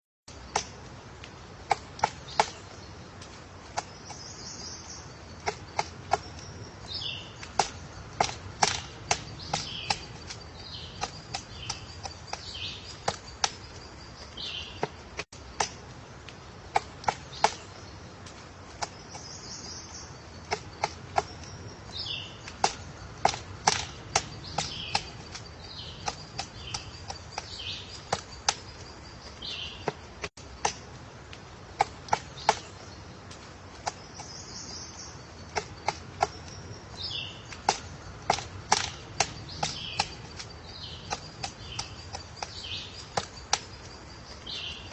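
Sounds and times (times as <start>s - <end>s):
woodpecker tapping on wood: 0.3s - 44.9s.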